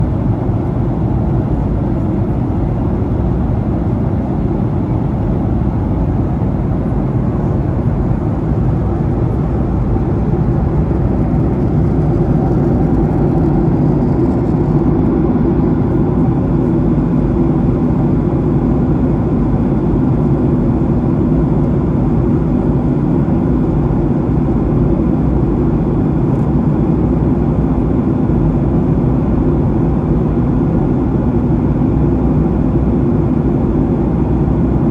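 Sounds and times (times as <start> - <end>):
airplane cabin engine and airflow rumble: 0.0 - 34.9.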